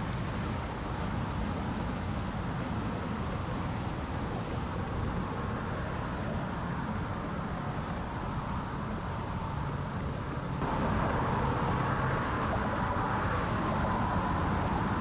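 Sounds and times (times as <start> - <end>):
low engine hum: 0.0 - 15.0
outdoor background noise: 0.0 - 15.0.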